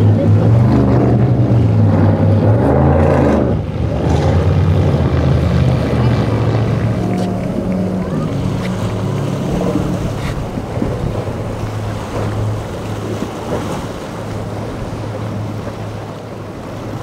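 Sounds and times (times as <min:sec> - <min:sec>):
boat engine running: 0:00.0 - 0:17.0
waves rushing: 0:00.0 - 0:17.0
wind on microphone: 0:00.0 - 0:17.0.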